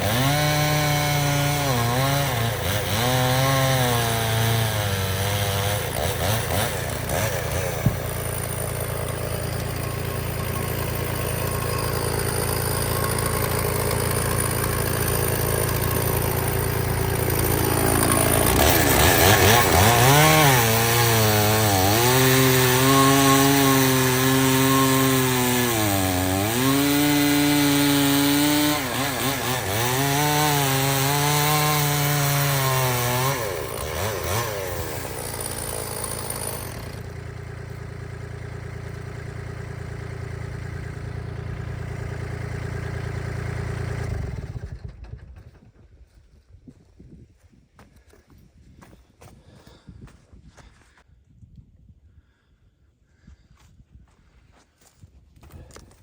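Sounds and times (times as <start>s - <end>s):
chainsaw cutting logs: 0.0s - 45.7s, 47.8s - 50.9s.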